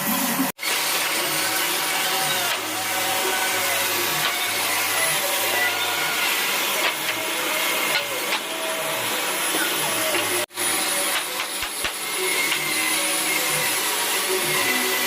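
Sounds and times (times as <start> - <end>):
power tool whirring: 0.0 - 15.0.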